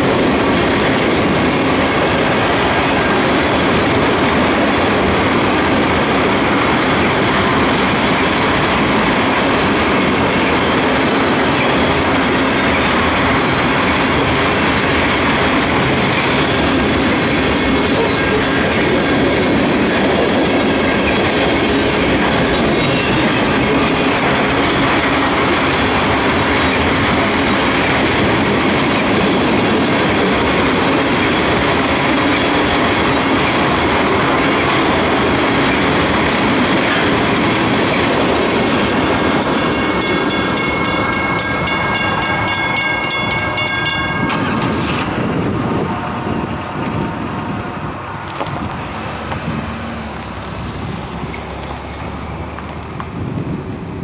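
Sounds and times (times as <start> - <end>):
pulsing high ringing: 0.0 - 48.2
freight train cars rumbling: 0.0 - 54.0
wheels clicking over rail joints: 0.0 - 54.0.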